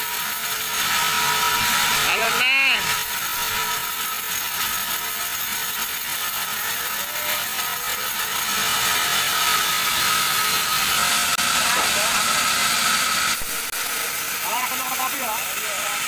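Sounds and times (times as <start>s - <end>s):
band saw cutting log: 0.0s - 16.0s.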